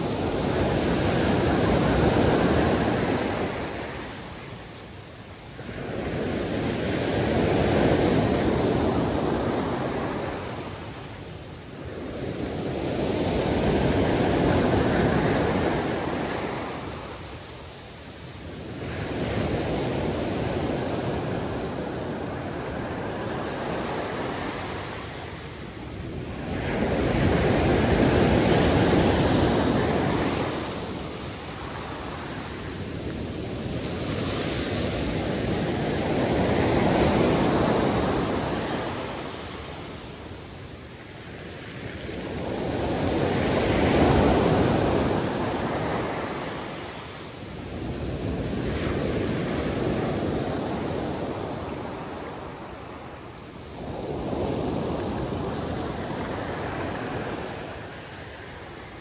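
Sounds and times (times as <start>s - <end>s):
sea waves: 0.0s - 59.0s.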